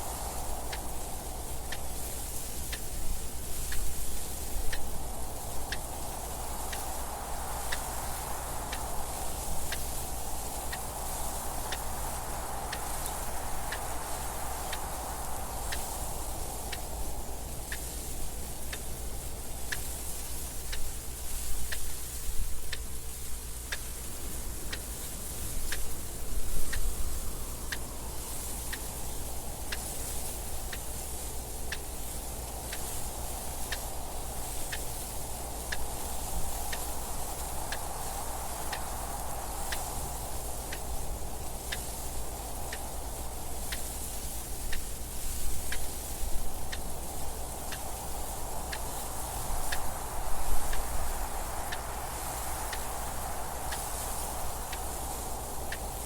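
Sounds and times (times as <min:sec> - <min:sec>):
wind noise in gusts: 0:00.0 - 0:56.0.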